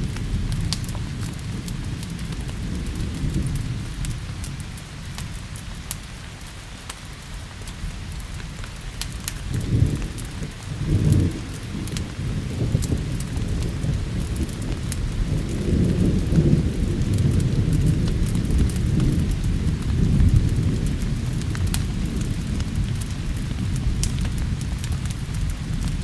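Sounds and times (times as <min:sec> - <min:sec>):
rolling thunder: 0:00.0 - 0:05.3, 0:08.9 - 0:26.0
steady rain: 0:00.0 - 0:26.0
wood fire crackling: 0:00.0 - 0:26.0.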